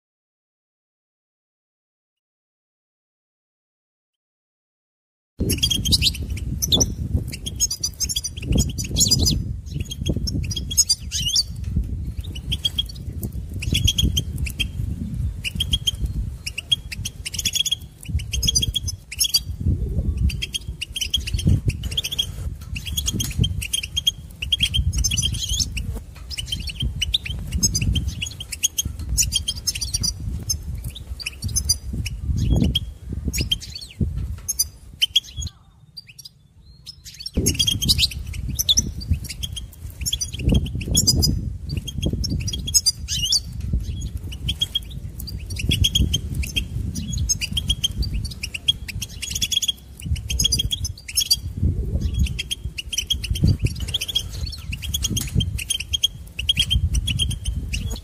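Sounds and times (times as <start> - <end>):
goldfinch twittering: 5.4 - 58.0.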